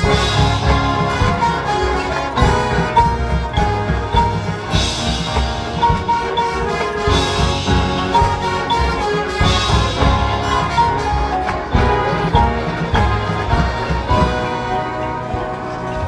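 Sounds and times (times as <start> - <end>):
brass instruments: 0.0 - 16.0.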